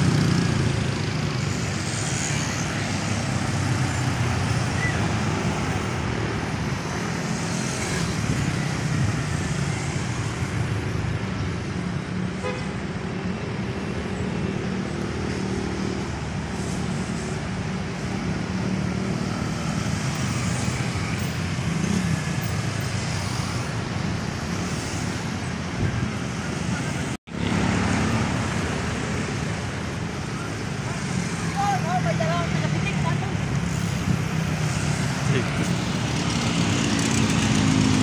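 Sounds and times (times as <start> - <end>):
road traffic noise: 0.0 - 38.0
vehicles passing: 0.0 - 38.0.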